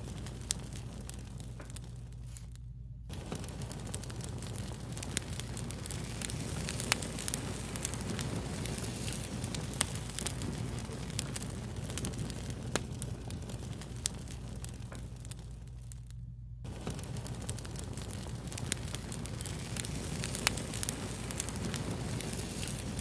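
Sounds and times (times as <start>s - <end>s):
fire popping and snapping: 0.0s - 23.0s
wood fire hissing: 0.0s - 23.0s.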